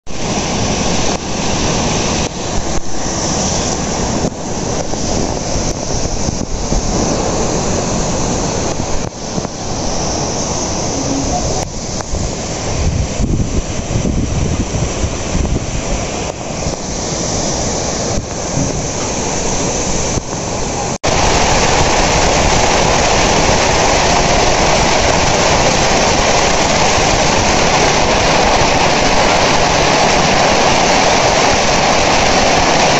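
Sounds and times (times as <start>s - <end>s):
heavy rain and hail: 0.1s - 32.9s
water streaming off roof: 0.1s - 32.9s
wind gusting on microphone: 0.1s - 32.9s.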